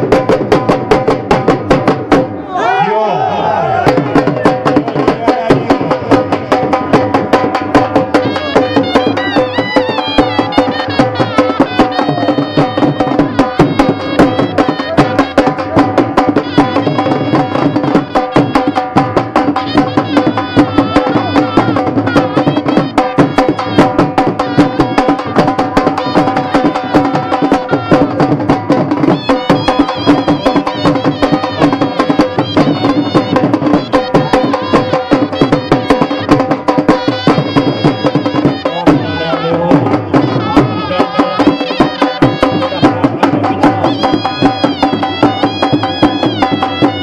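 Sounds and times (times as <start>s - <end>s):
fast drum rhythm: 0.0s - 2.4s, 3.8s - 47.0s
sustained folk melody: 8.1s - 47.0s.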